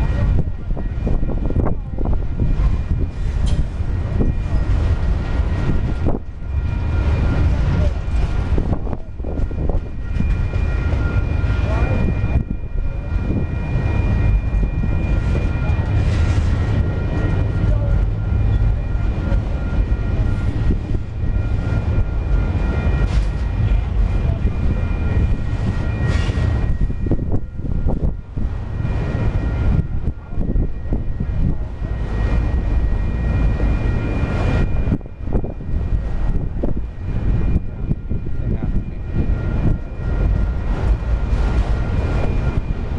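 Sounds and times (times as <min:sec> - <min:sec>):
freight train wheels rumbling on rails: 0:00.0 - 0:42.9.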